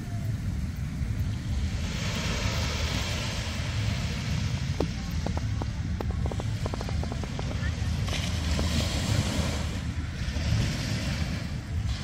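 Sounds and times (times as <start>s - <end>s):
small waves washing on sand: 0.0s - 12.0s
wind on microphone: 0.0s - 12.0s.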